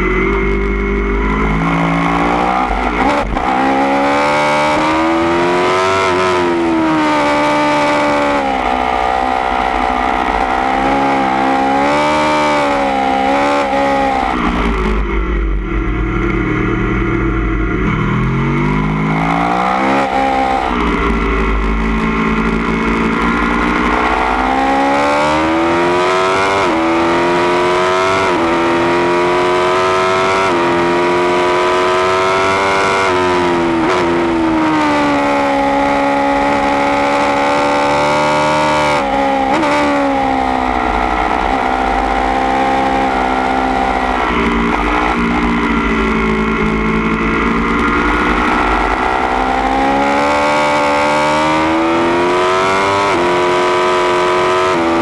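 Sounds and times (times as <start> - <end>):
motorcycle engine revving hard: 0.0 - 55.0.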